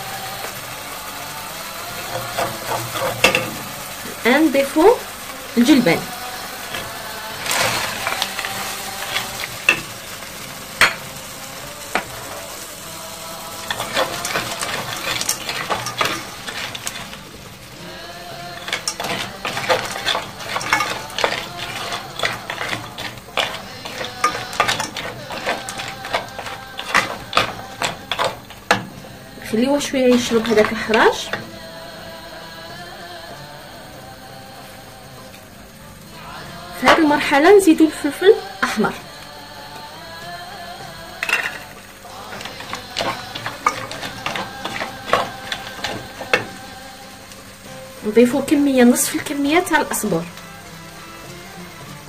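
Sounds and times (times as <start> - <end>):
spatula scraping a frying pan: 0.0 - 31.9, 36.5 - 39.2, 41.2 - 52.0
peas sizzling in oil: 0.0 - 52.0.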